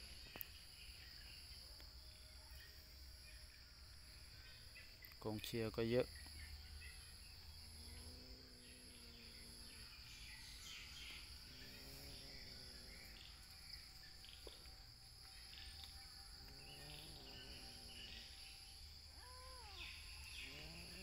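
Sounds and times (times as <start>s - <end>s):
insect drone: 0.0s - 21.0s
pulsing cricket-like chirp: 0.0s - 21.0s.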